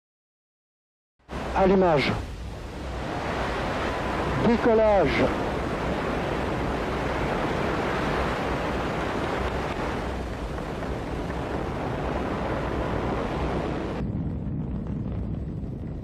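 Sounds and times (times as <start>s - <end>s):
deep rocket rumble: 1.3s - 16.0s
rocket engines rushing roar: 1.3s - 16.0s.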